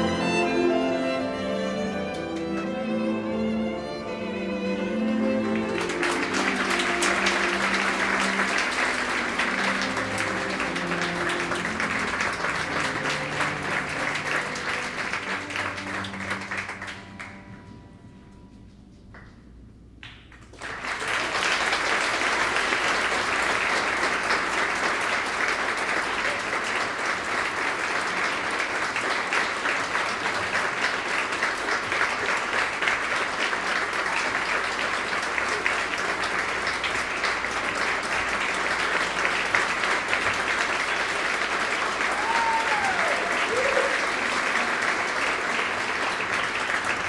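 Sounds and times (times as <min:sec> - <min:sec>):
audience applauding: 0:05.0 - 0:17.4, 0:20.0 - 0:47.0.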